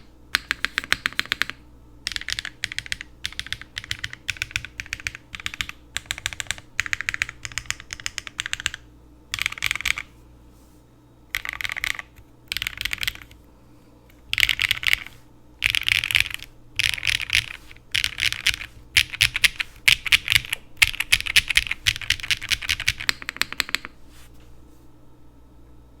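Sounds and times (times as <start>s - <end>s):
mechanical keyboard typing: 0.0s - 10.1s, 11.3s - 13.4s, 14.2s - 23.9s.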